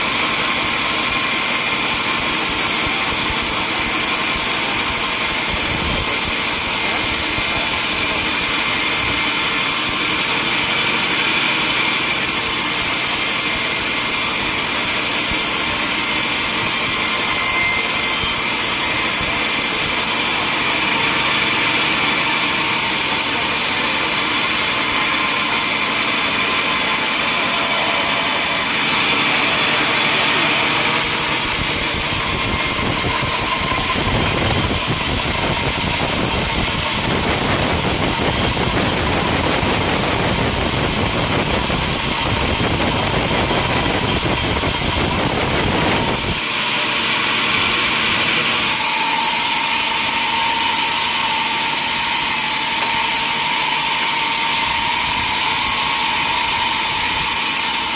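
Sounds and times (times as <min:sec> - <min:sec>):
saw cutting wood: 0:00.0 - 0:57.9.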